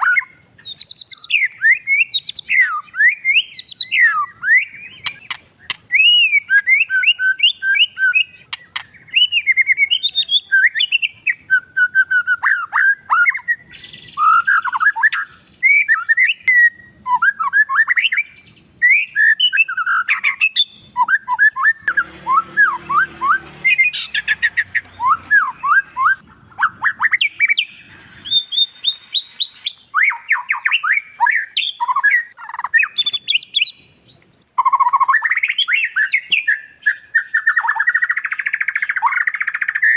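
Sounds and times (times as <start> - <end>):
bird singing whistled phrases: 0.0 - 33.9, 34.6 - 39.9.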